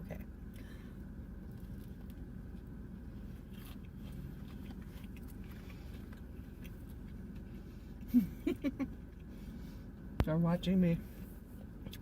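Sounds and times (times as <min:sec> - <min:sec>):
steady low hum: 0:00.0 - 0:12.0
person chewing food: 0:00.4 - 0:08.2, 0:08.9 - 0:10.1, 0:11.2 - 0:12.0.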